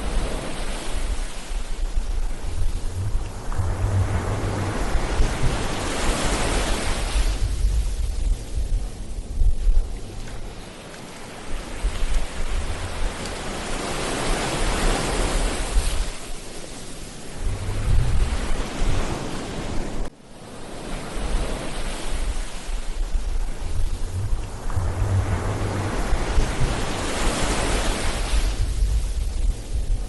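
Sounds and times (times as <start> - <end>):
wind buffeting microphone: 0.0 - 20.1, 21.2 - 30.0
ocean waves breaking: 0.0 - 30.0.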